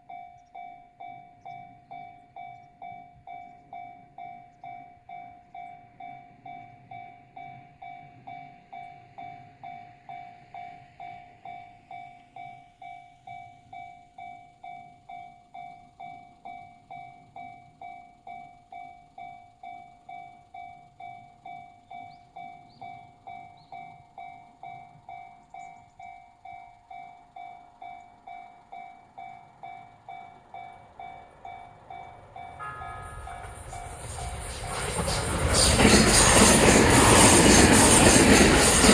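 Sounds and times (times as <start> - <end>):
approaching train: 0.1 - 38.9
level-crossing alarm bell ringing: 5.7 - 38.9.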